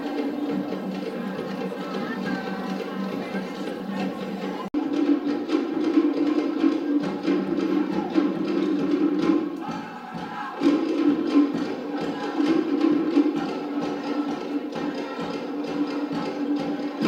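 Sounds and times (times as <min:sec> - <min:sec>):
fast wooden drumming: 0:00.0 - 0:17.0
group of voices singing: 0:00.0 - 0:17.0.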